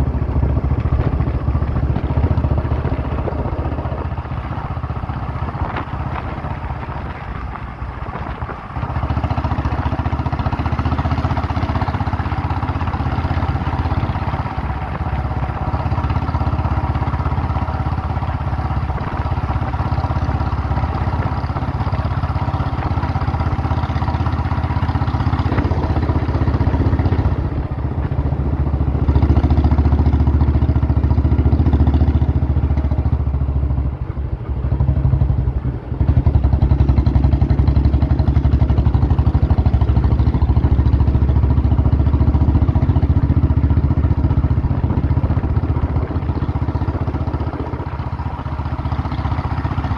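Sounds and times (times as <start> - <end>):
motorcycle engine thumping: 0.0 - 11.2, 11.9 - 49.8.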